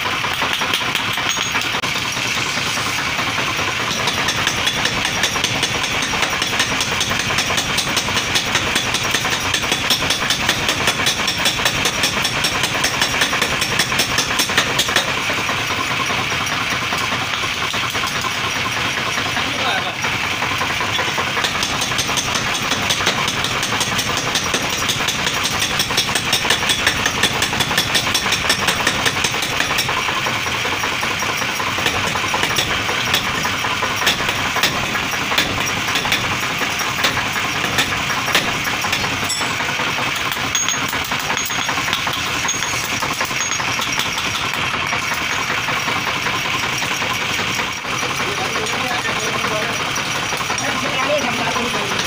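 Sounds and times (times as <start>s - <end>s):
machine drone: 0.0s - 52.0s
power hammer striking metal: 0.0s - 52.0s.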